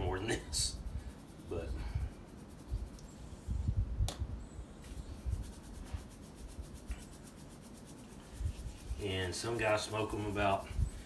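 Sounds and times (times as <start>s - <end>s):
hands rubbing seasoning into meat: 0.0s - 3.8s, 4.8s - 11.0s.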